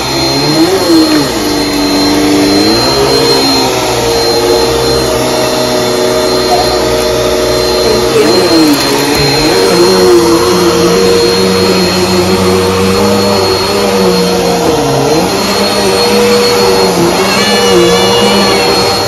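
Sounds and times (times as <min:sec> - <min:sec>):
vacuum cleaner running on carpet: 0:00.0 - 0:19.0.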